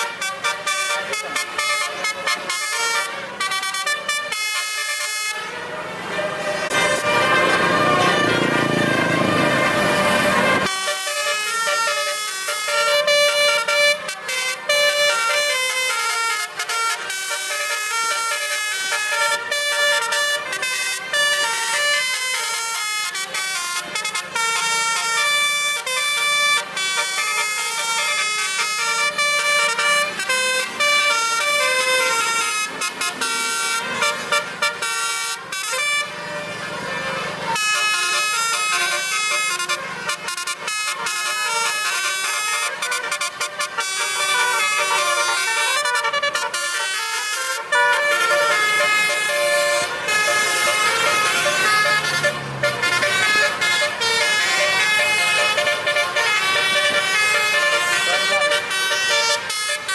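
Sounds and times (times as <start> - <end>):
truck air horns playing a melody: 0.0 - 59.9.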